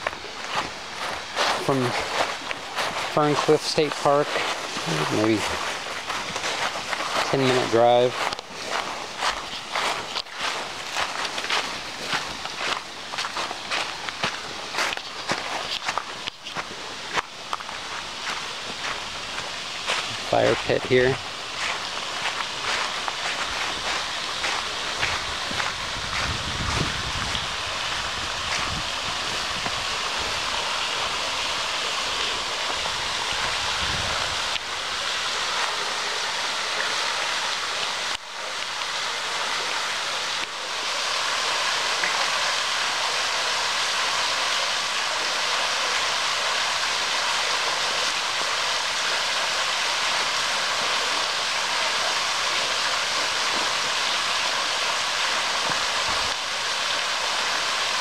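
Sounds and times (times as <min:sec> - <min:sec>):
waterfall pouring and splashing: 0:00.0 - 0:58.0.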